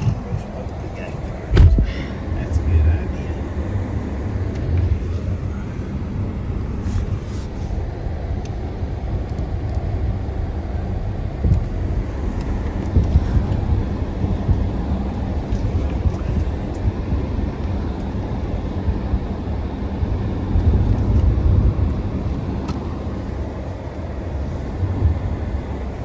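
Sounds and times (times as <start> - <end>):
truck engine rumbling: 0.0 - 26.0.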